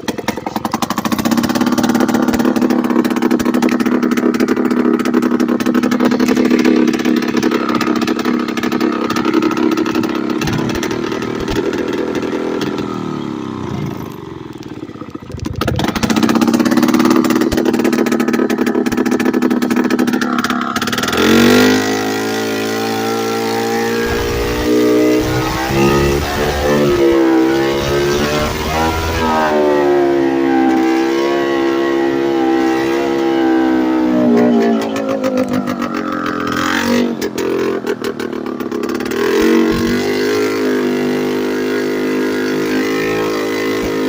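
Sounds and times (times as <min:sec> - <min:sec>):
two-stroke engine running: 0:00.0 - 0:44.0.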